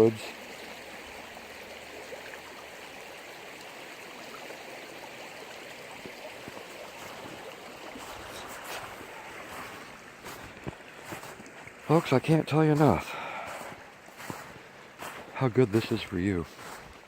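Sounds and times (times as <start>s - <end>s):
creek water rippling over rocks: 0.0s - 17.0s.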